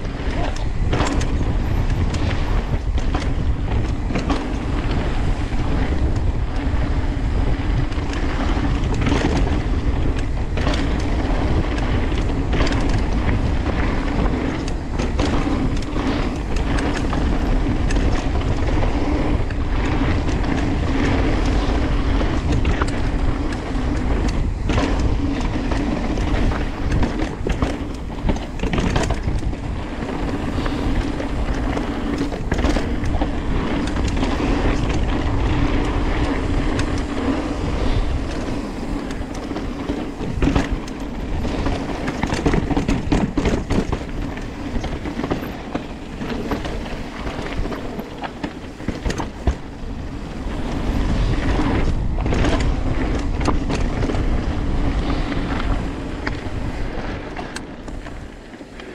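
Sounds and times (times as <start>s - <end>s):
bike tyres roaring on gravel: 0.0s - 58.9s.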